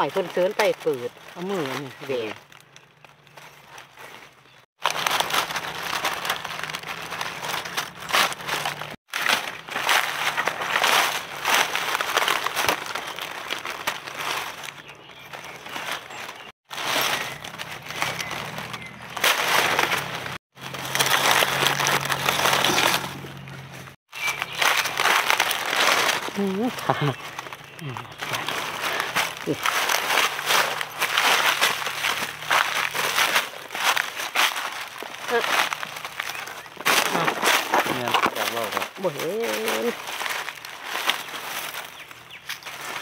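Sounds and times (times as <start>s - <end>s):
dry leaves crunching: 0.0s - 43.0s.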